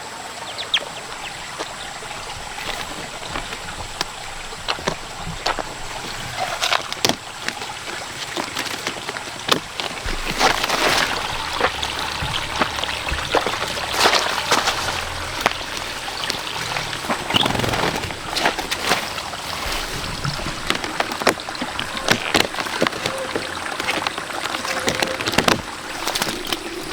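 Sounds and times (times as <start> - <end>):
water trickling and splashing: 0.0 - 26.9.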